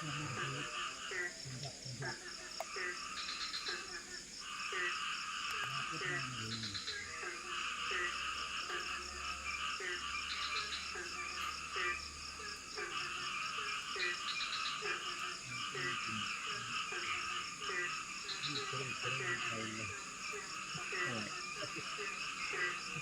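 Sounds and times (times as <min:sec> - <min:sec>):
frogs calling: 0:00.0 - 0:23.0.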